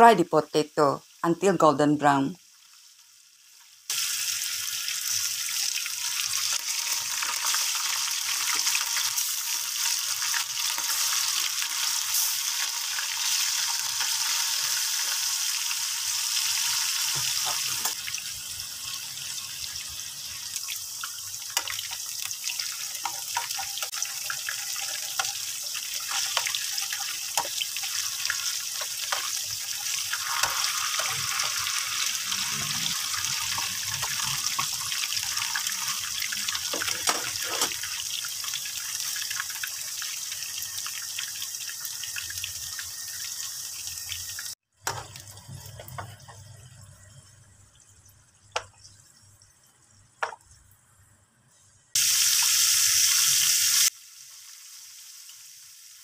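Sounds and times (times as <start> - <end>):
potatoes sizzling in hot oil: 1.0 - 46.6, 52.0 - 56.0.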